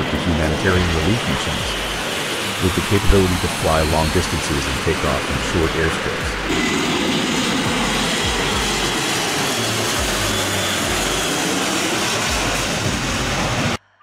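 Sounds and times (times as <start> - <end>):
turboprop aircraft flying low past: 0.0 - 13.8.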